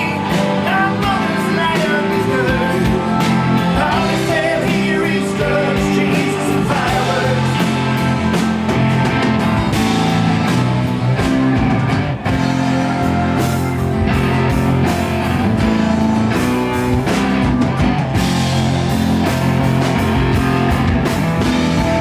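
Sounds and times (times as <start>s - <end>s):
country-rock band playing: 0.0s - 22.0s
electric guitar lead: 0.0s - 22.0s.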